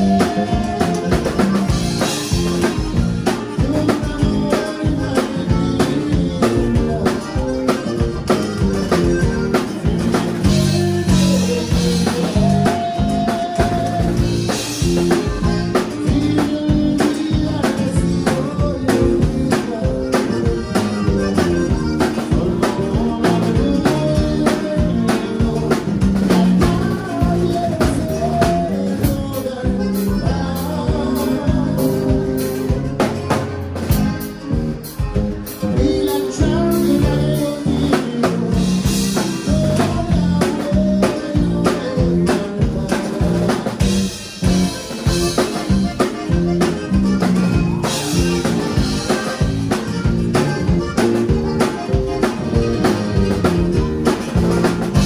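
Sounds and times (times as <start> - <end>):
button accordion melody: 0.0 - 55.0
drum kit steady beat: 0.0 - 55.0
stringed bass line: 0.0 - 55.0.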